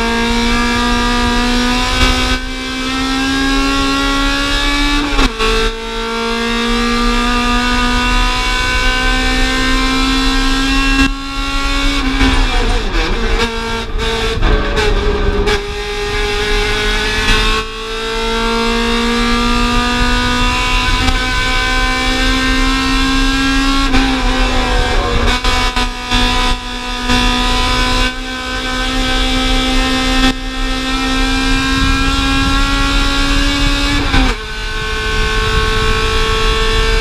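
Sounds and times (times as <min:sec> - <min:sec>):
car engine at high revs: 0:00.0 - 0:37.0.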